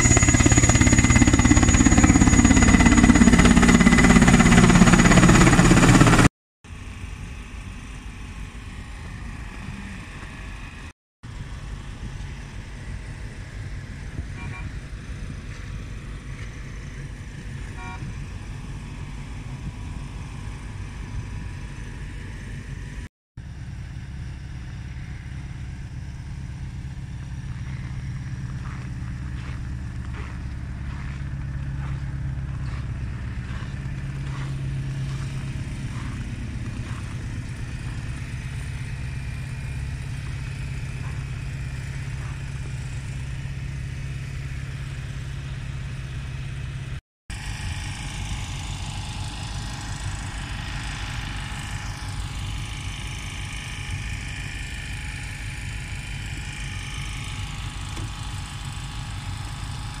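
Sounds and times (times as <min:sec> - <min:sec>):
engines idling: 0:00.0 - 1:00.0.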